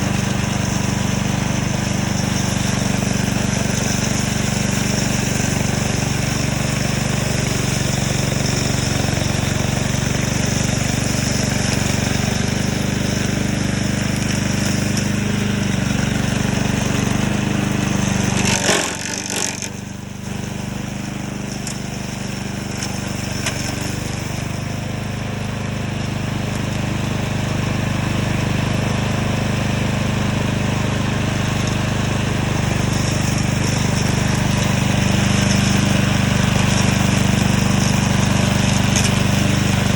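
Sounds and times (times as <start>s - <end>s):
remote-control lawn mower engine: 0.0s - 39.9s.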